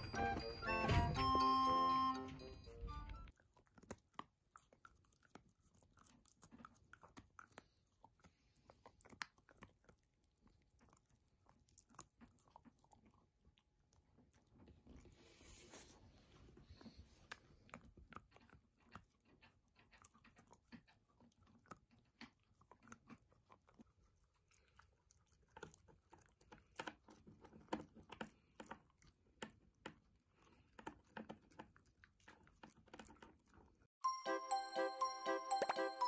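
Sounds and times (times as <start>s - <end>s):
puppy gnawing on chew stick: 2.9s - 33.9s.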